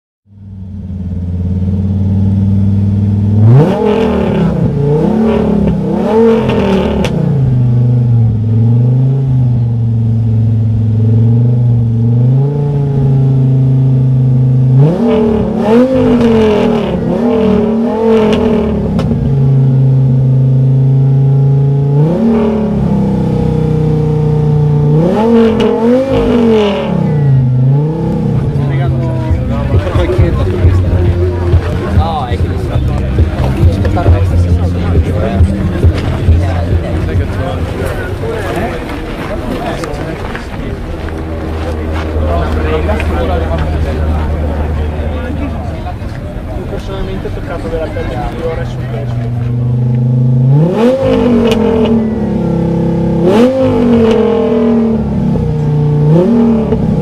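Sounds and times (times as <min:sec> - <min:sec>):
car engine revving and idling: 0:00.3 - 0:57.0.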